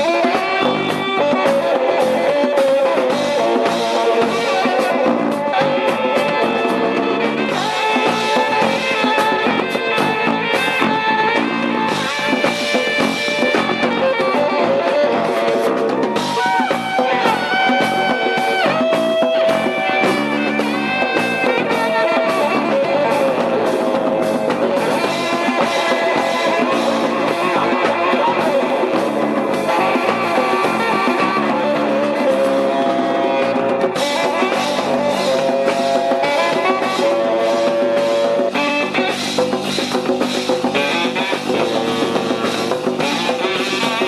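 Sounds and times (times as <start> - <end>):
rock music with guitar and drums: 0.0 - 44.0.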